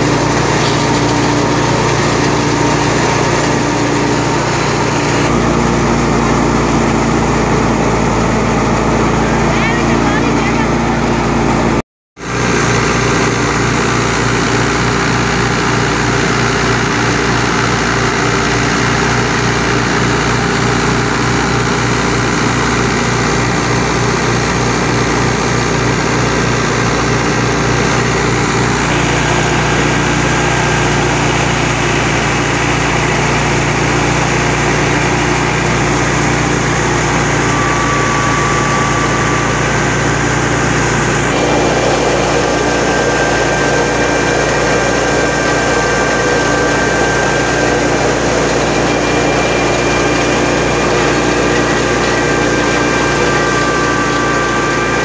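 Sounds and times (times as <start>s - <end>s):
thresher drum and belts running: 0.0s - 55.0s
tractor diesel engine running: 0.0s - 55.0s.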